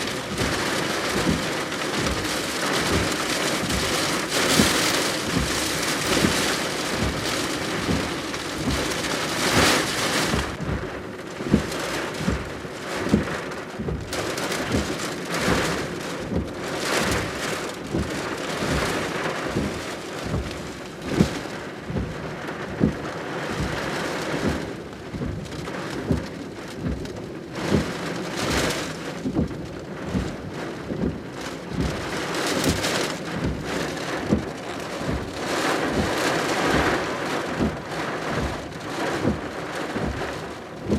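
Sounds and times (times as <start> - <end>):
heavy rain pouring: 0.0 - 40.9
wind: 0.0 - 40.9.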